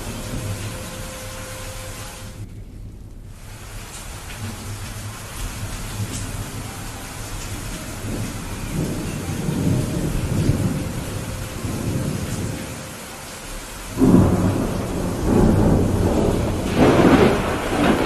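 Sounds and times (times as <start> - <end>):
steady rain falling: 0.0 - 18.0
thunder rumbling: 0.0 - 18.0.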